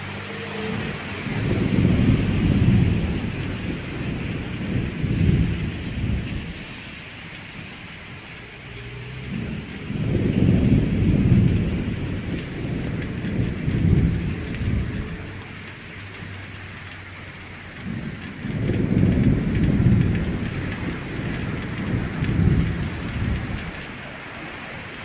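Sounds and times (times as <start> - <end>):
rain hissing: 0.0 - 25.0
thunder rumbling: 0.0 - 25.0.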